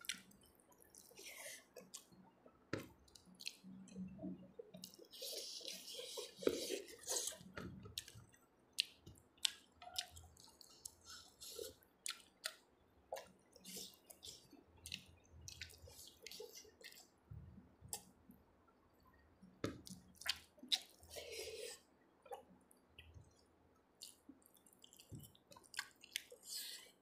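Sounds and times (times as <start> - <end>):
person chewing food: 0.0 - 17.2, 19.6 - 27.0.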